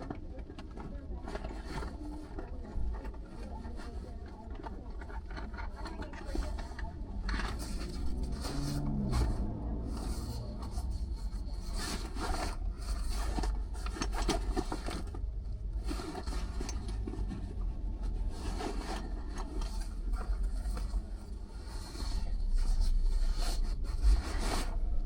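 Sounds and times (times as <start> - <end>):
car engine and road rumble: 0.0 - 25.0
scraping and rubbing noises: 0.0 - 25.0.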